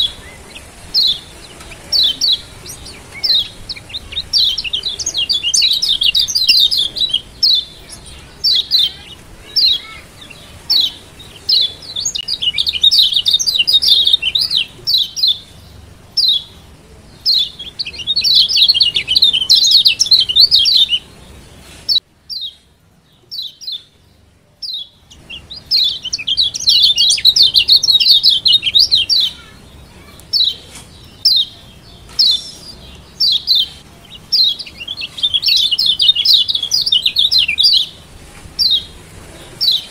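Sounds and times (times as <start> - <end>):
bird rapid high chirps: 0.0 - 16.6, 17.2 - 21.1, 24.6 - 39.9.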